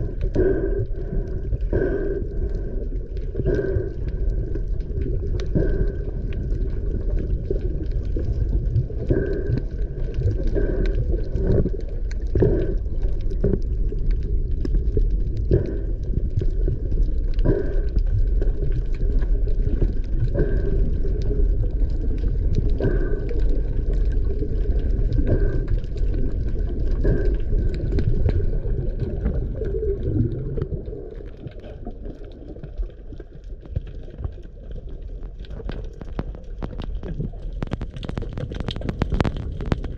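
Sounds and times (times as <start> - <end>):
underwater rumble: 0.0 - 39.9.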